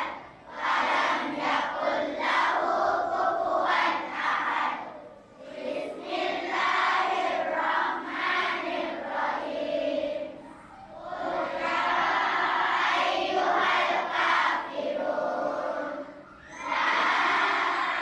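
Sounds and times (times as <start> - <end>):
children chanting in unison: 0.0 - 18.0.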